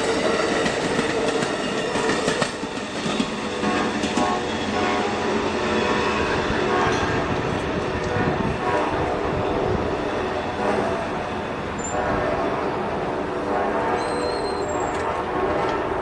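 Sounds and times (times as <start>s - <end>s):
train rumbling past on rails: 0.0s - 16.0s.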